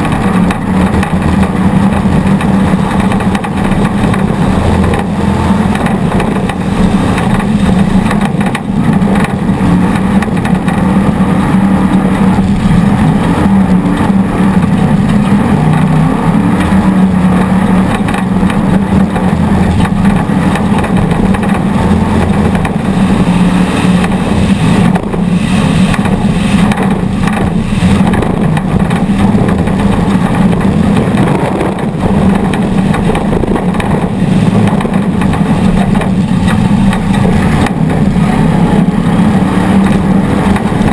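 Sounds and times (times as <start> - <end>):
off-road vehicle engine running hard: 0.0 - 40.9
rough terrain noise: 0.0 - 40.9
wind noise: 0.0 - 40.9.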